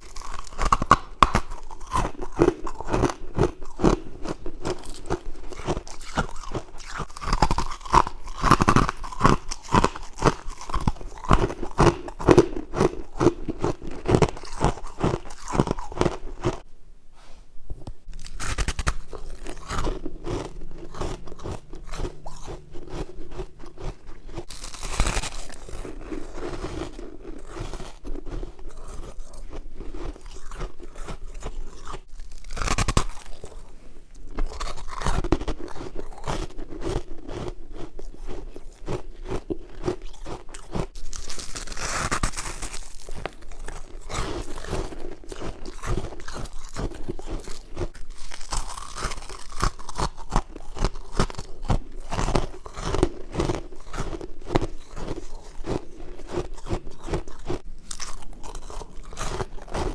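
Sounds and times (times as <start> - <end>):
person chewing crisp crunches: 0.0 - 59.9.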